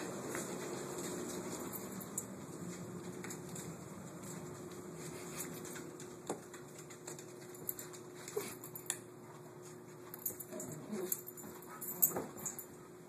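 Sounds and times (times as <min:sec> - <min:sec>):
dog paws pattering on carpet: 0:00.0 - 0:13.0.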